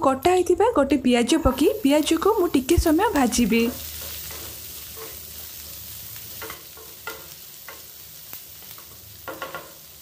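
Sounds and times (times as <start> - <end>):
onions sizzling in oil: 0.4 - 10.0.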